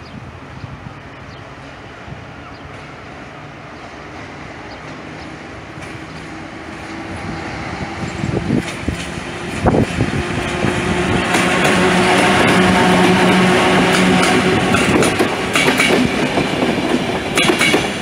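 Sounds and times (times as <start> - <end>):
train hum approaching: 0.0 - 18.0.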